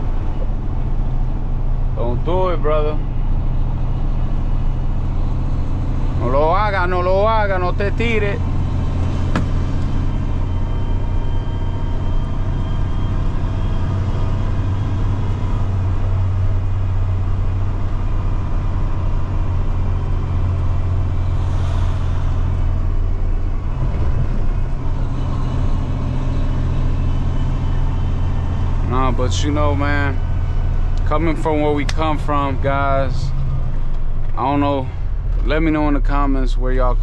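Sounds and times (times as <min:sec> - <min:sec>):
diesel truck engine droning: 0:00.0 - 0:37.0.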